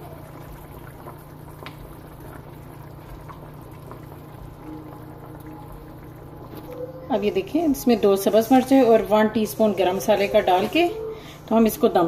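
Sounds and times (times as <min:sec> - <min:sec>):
curry simmering in a pot: 0:00.0 - 0:11.0
steady low hum: 0:00.0 - 0:12.0.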